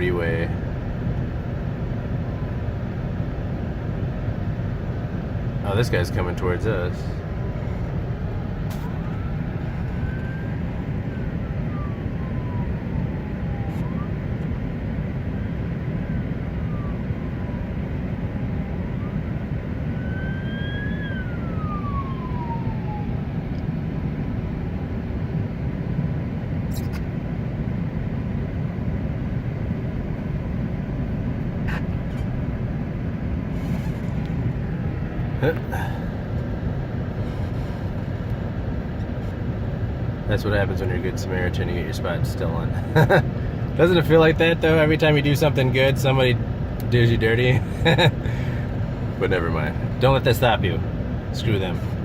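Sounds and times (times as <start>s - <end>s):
emergency vehicle siren wailing: 0.0s - 6.2s, 6.9s - 45.0s, 47.6s - 52.0s
low road and engine rumble: 0.0s - 52.0s.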